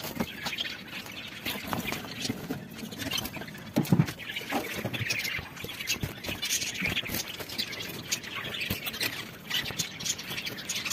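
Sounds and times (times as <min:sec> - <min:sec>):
finches chirping: 0:00.0 - 0:10.9.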